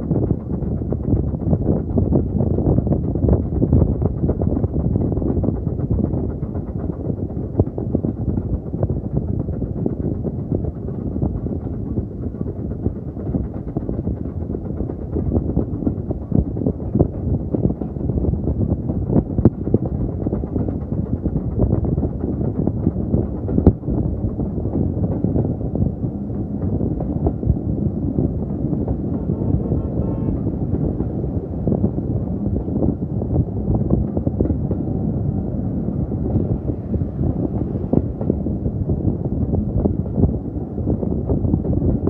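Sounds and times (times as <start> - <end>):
railway carriage rumbling: 0.0 - 42.0.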